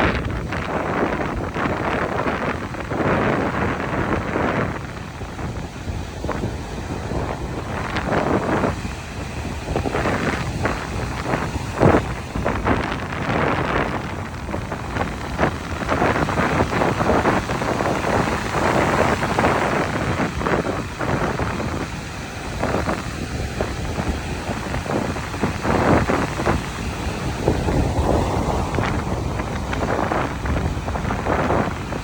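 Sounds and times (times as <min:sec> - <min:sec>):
strong wind buffeting microphone: 0:00.0 - 0:32.0.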